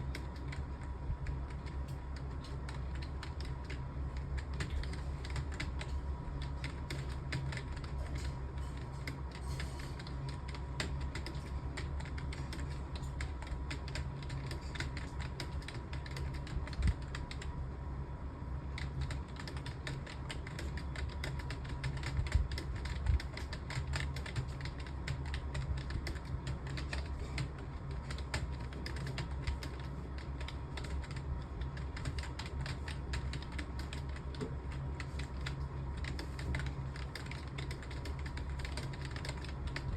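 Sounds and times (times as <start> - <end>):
fast keyboard typing: 0.0 - 17.6, 18.6 - 39.9
steady low hum: 0.0 - 39.9.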